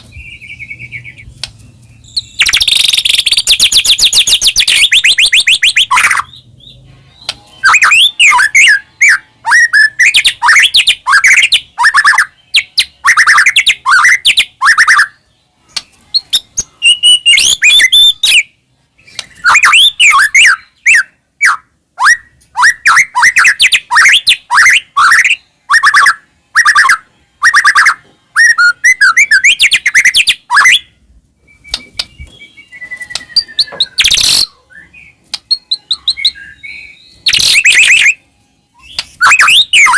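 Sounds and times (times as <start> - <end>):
songbird chattering and whistling: 0.0 - 30.9, 31.5 - 38.2, 38.8 - 39.9.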